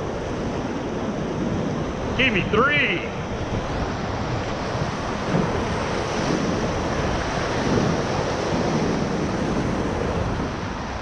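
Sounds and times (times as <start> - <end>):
river whitewater rushing: 0.0 - 11.0
wind buffeting microphone: 0.0 - 11.0.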